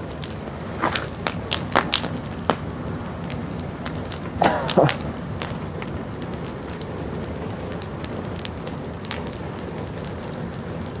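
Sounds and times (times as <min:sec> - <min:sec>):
bonfire flames rushing: 0:00.0 - 0:11.0
fire crackles and pops: 0:00.0 - 0:11.0.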